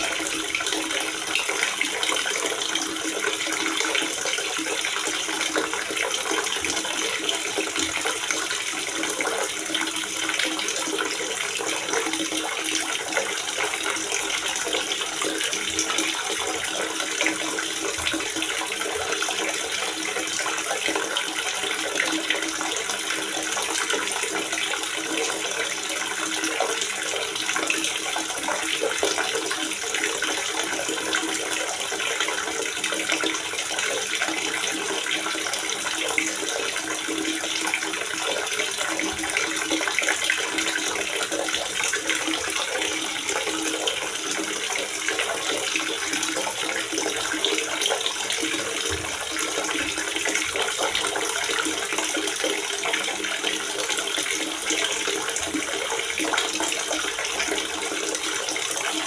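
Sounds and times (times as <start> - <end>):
water gurgling and splashing: 0.0 - 59.0.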